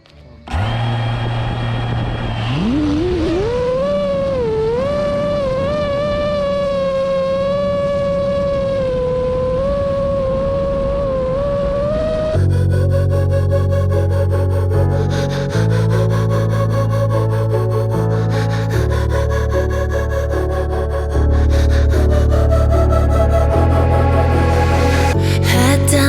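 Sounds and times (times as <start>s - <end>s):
low drone: 0.0s - 26.0s
synthesizer lead sliding up: 0.4s - 26.0s.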